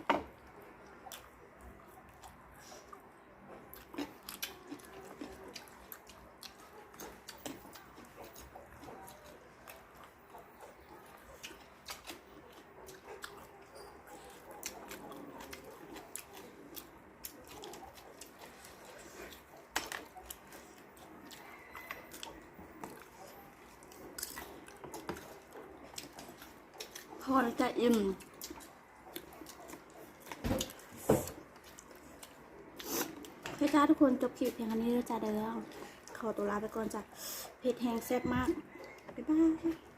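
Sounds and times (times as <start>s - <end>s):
chewing and smacking food: 0.0s - 39.9s.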